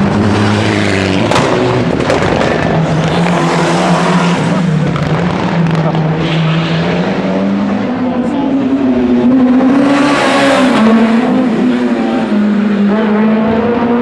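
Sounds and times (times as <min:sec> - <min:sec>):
rally car engine revving: 0:00.0 - 0:14.0
tyre and road noise: 0:00.0 - 0:14.0.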